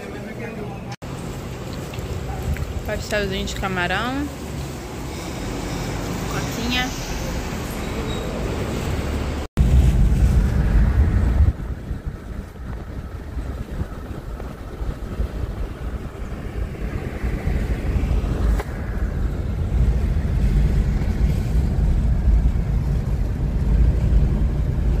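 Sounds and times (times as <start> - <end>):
road and engine rumble: 0.0 - 25.0
wind noise: 4.8 - 25.0.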